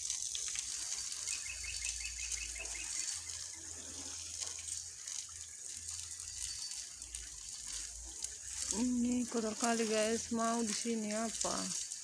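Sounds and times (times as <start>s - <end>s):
water running and splashing: 0.0s - 12.0s.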